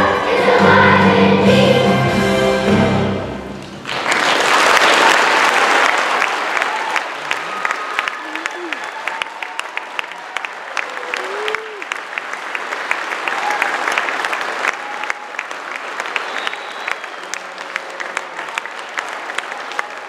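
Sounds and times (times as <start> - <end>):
audience applauding: 3.6 - 20.0.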